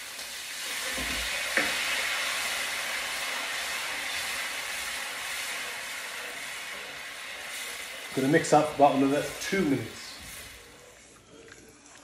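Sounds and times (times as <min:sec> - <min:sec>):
liquid sizzling in a hot pan: 0:00.0 - 0:11.0.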